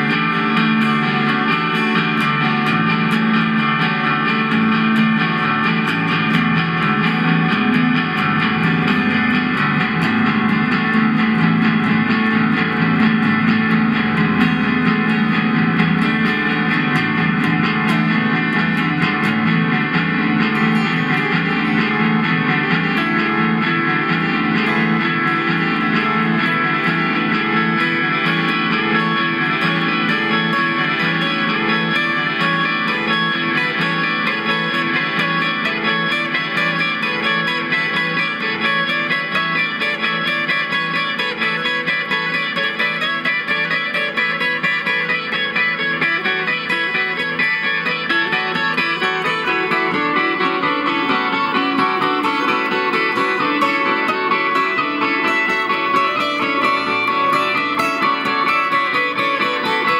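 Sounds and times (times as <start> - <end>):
electric guitar picked notes: 0.0 - 59.9.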